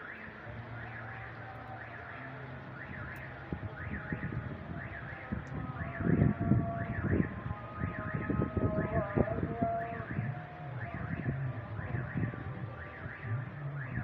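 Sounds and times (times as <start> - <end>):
car alarm warbling: 1.7 - 14.0.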